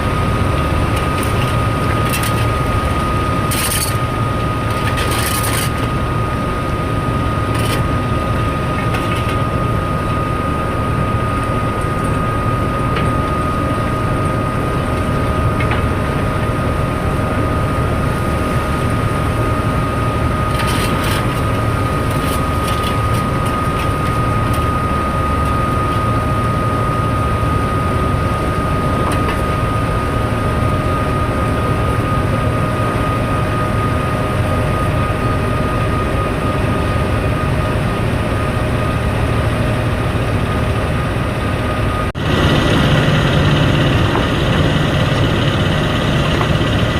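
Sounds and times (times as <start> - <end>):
constant high whine: 0.0 - 46.9
heavy machinery deep drone: 0.0 - 46.9.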